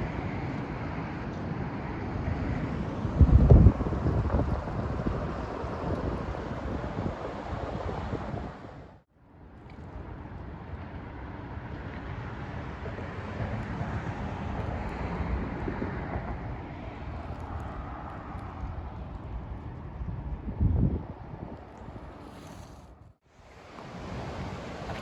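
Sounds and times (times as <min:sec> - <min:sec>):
wind buffeting microphone: 0:00.0 - 0:09.0, 0:10.0 - 0:23.2.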